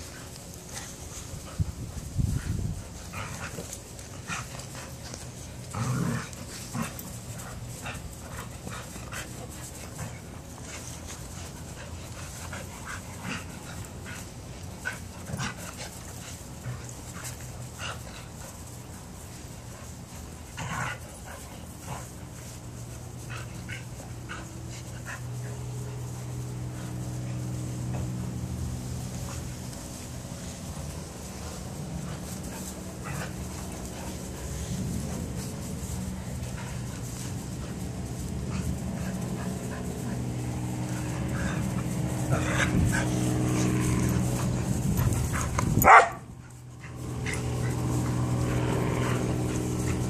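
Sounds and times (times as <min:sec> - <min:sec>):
dogs play-fighting: 0:00.0 - 0:50.0.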